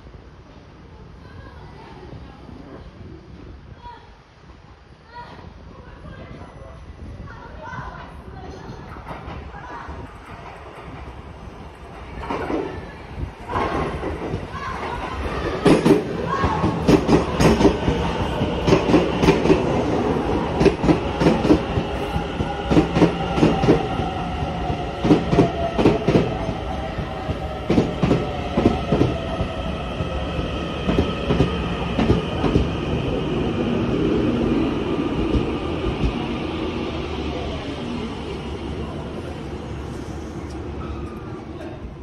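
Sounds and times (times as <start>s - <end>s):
electric train pulling in: 8.3s - 42.0s.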